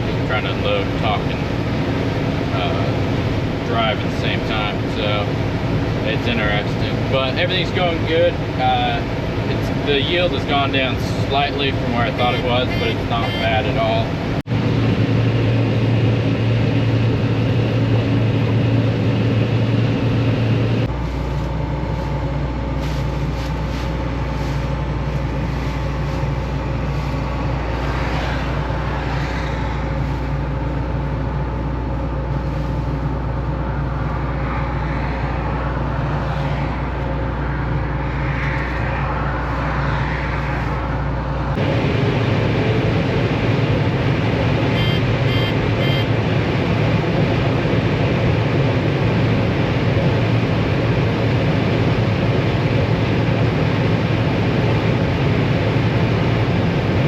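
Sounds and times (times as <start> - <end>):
combine harvester running: 0.0 - 57.0
rough loud machine noise: 0.0 - 57.0.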